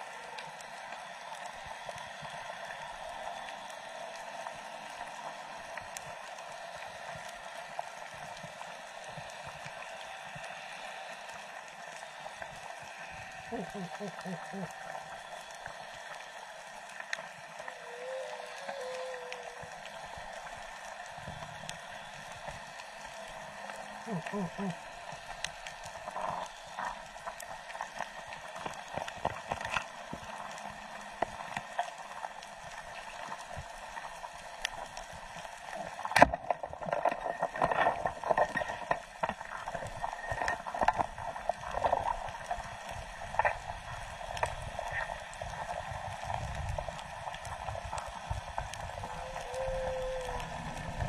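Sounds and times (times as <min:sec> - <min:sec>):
faint clicks and crackles: 0:00.0 - 0:51.0
watery underwater hiss: 0:00.0 - 0:51.0.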